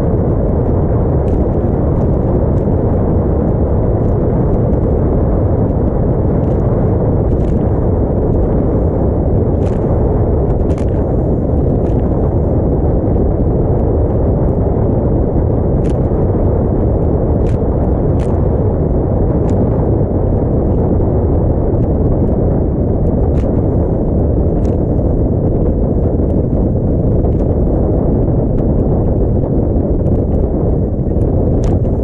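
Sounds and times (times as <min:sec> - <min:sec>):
heavy wind buffeting microphone: 0:00.0 - 0:32.0.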